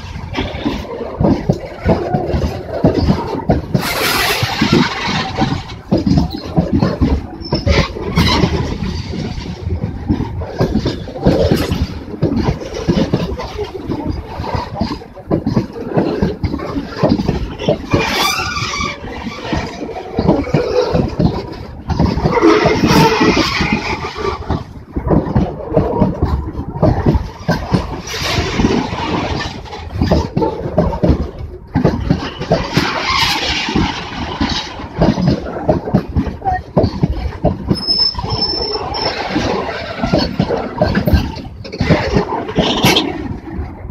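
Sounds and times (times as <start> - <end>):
steel wheels clattering over track: 0.0 - 43.9
train clanks: 0.0 - 43.9
train rumbling past: 0.0 - 43.9
wind buffeting microphone: 0.0 - 43.9.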